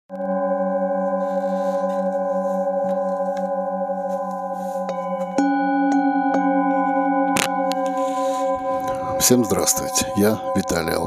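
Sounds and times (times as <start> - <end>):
singing bowls ringing: 0.1 - 11.0.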